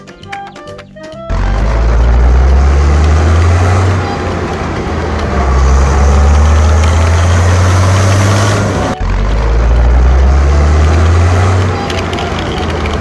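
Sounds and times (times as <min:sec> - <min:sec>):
vehicle engine rumbling: 0:01.2 - 0:13.0.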